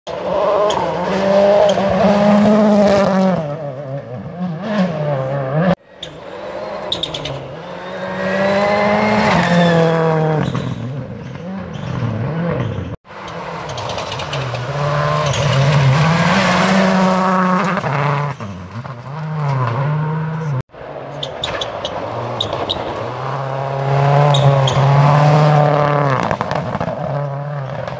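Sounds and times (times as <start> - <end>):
rally car engine at full throttle: 0.1 - 27.9.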